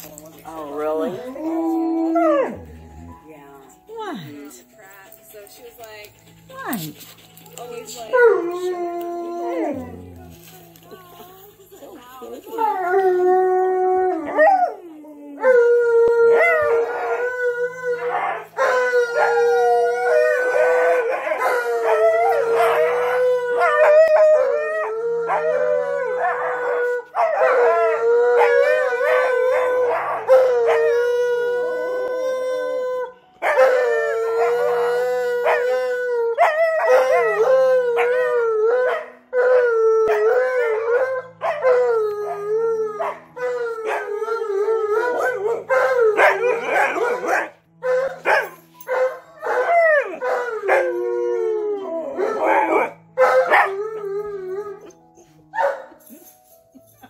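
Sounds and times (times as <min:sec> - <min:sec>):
dog howling: 0:00.1 - 0:03.2, 0:06.5 - 0:10.5, 0:12.6 - 0:55.0.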